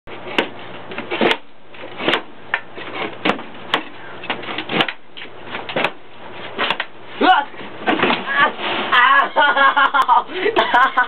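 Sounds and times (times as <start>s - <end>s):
faint steady hum: 0.1s - 11.0s.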